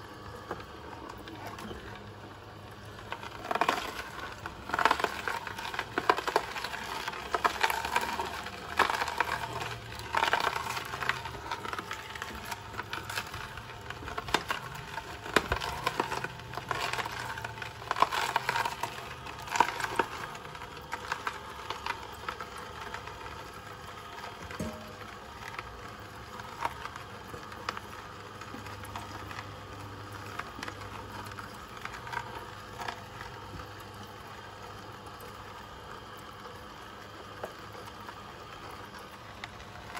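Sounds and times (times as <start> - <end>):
juicer motor hum: 0.0 - 39.9
vegetables cracking in juicer: 0.0 - 39.9.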